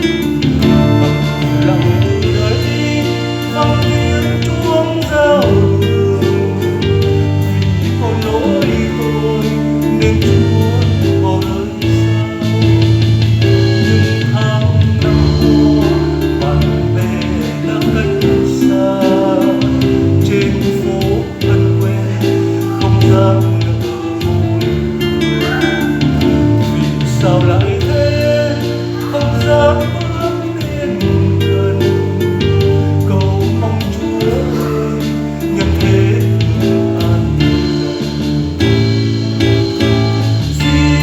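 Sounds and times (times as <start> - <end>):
guitar ballad with bass: 0.0 - 41.0.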